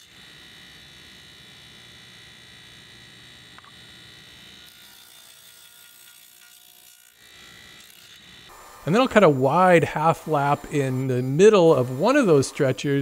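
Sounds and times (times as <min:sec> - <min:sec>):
table saw whine: 0:00.0 - 0:13.0.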